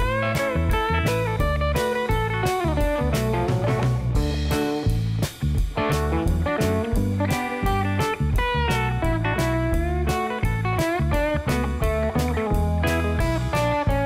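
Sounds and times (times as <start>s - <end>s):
electric guitar instrumental music: 0.0s - 14.0s.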